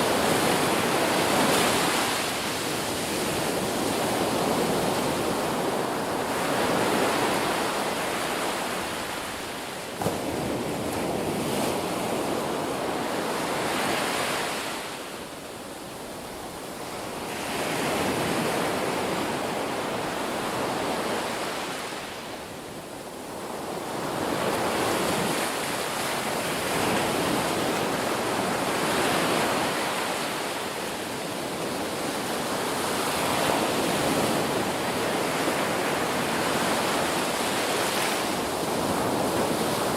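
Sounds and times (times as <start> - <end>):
ocean waves washing: 0.0 - 39.9.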